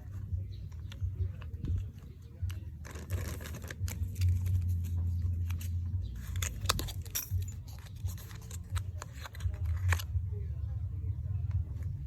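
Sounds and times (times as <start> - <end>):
plastic packaging clicks and rattles: 0.0 - 10.1
steady low hum: 0.0 - 12.0.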